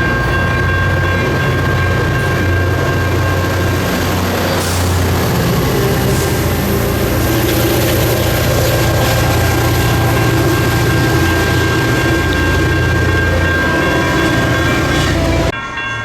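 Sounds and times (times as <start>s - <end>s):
diesel train engine drone: 0.0s - 15.6s.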